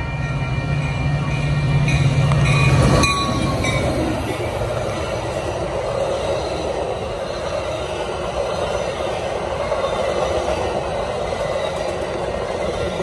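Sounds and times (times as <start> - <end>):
diesel locomotive engine drone: 0.0 - 13.0
train coaches rumbling on rails: 0.0 - 13.0.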